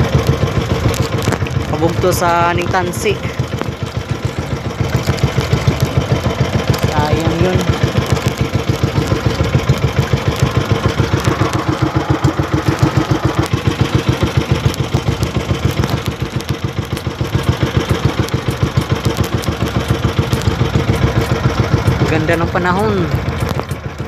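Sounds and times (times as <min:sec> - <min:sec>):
small boat engine chugging: 0:00.0 - 0:24.0.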